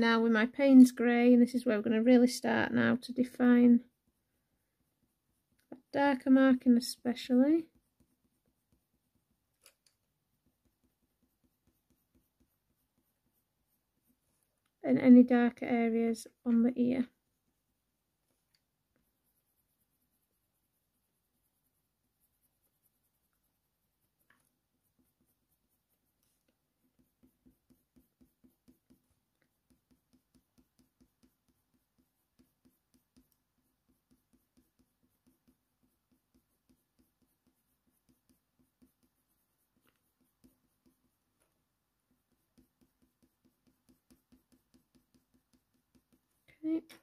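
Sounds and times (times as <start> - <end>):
pencil scratching on paper: 0.0 - 47.0.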